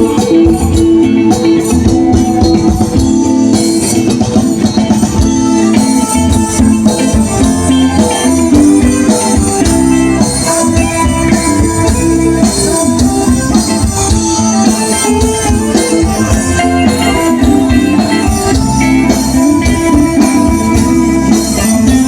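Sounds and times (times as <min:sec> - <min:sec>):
percussion beat: 0:00.0 - 0:22.0.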